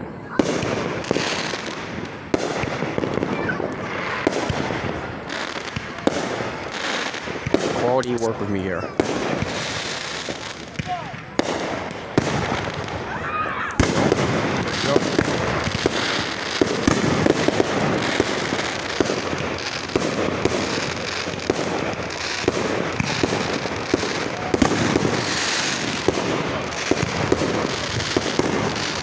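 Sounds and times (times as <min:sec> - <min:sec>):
firework bangs: 0:00.0 - 0:29.0
firework crackling: 0:00.0 - 0:29.0.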